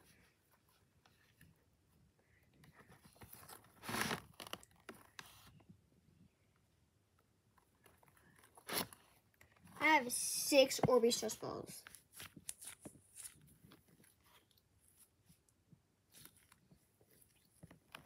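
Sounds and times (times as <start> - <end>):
rubber and plastic toys rustling: 0.0 - 5.8, 7.2 - 18.0.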